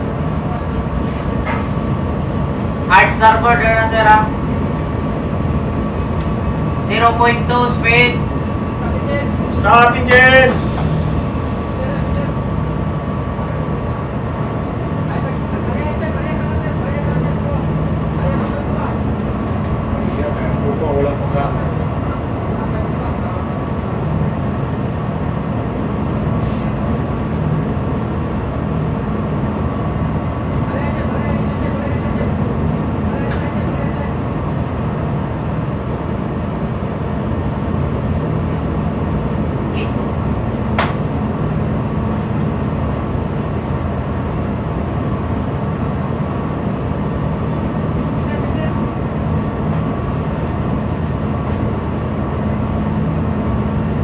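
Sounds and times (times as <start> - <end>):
ship low rumble: 0.0 - 54.0.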